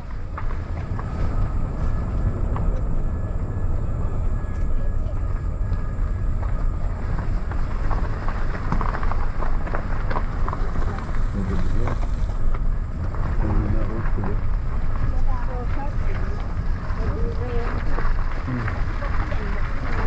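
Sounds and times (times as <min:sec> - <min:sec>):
vehicle driving on road: 0:00.0 - 0:20.0.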